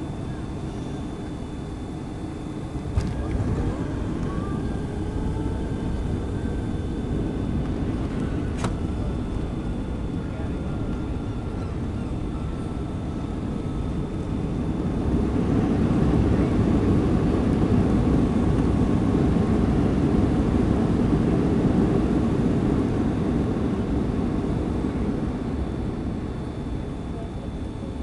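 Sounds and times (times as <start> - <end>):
airplane cabin roar: 0.0 - 28.0.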